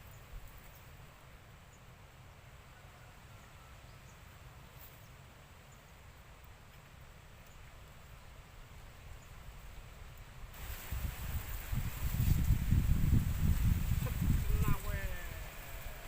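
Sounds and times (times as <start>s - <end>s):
low rumble and hiss: 0.0s - 16.0s.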